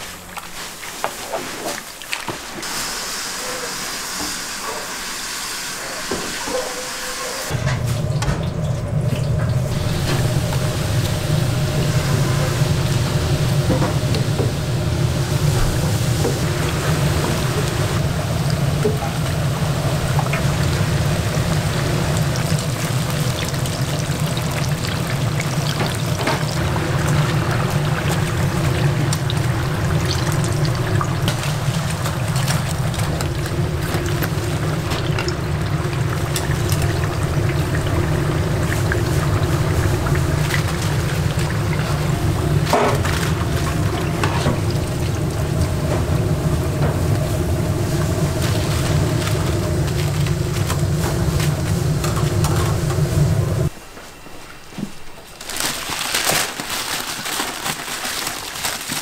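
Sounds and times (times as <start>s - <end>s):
liquid pouring and sloshing: 0.0s - 2.6s, 7.6s - 53.7s
kitchen equipment hum: 0.0s - 59.0s.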